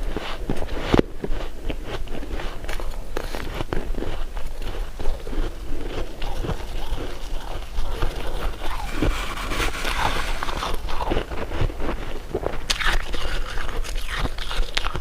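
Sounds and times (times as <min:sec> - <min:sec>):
biting and chewing dessert: 0:00.0 - 0:15.0.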